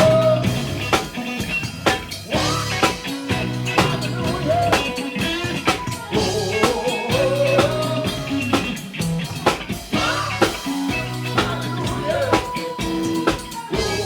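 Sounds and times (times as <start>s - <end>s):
bass line: 0.0s - 14.0s
drum kit beat: 0.0s - 14.0s.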